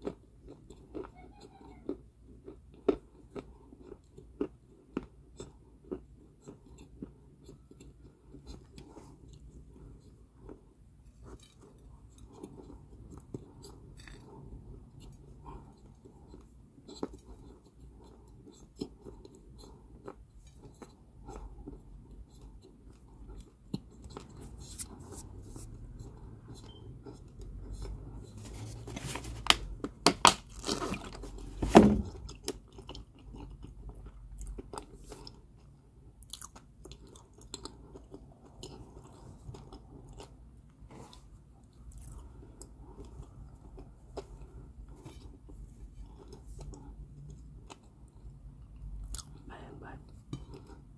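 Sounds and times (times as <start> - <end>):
person chewing crunchy clay: 0.0 - 50.9.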